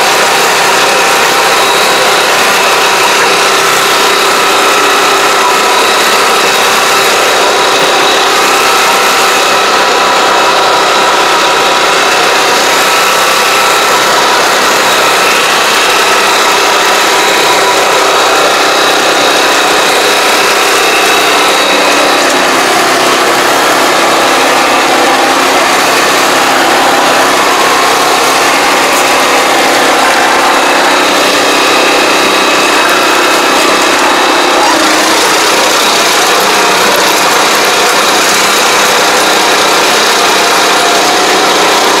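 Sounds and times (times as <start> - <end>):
crawler engine running: 0.0 - 42.0.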